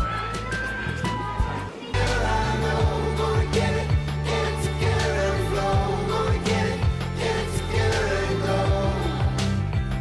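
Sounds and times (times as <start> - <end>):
pop music with beat: 1.0 - 10.0.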